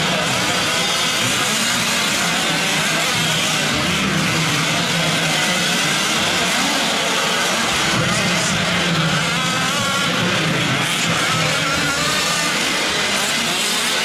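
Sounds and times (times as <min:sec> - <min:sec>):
rc truck engines buzzing: 0:00.0 - 0:14.0.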